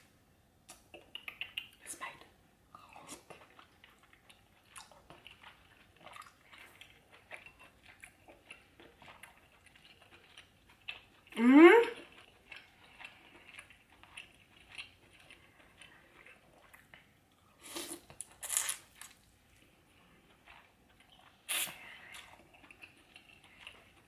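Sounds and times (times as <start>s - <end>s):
wet chewing: 0.7s - 1.9s, 2.8s - 24.0s.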